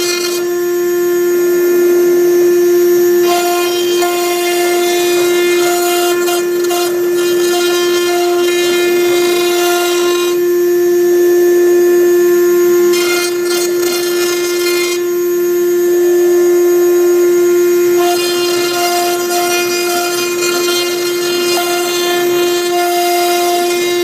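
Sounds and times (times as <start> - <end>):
router spindle whining: 0.0 - 24.0.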